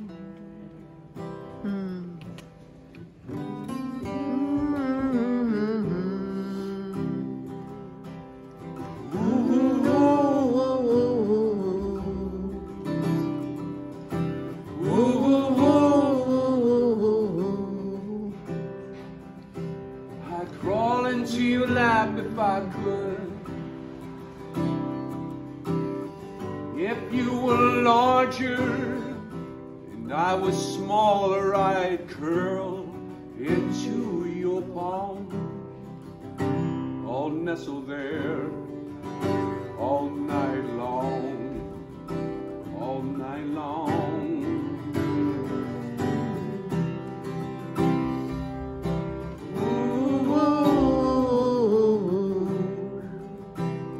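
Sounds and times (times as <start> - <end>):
man singing with vibrato: 0.0 - 0.8, 3.3 - 8.2, 8.8 - 19.1, 20.1 - 24.0, 26.6 - 35.9, 36.9 - 53.6
strummed acoustic string instrument: 6.3 - 53.9.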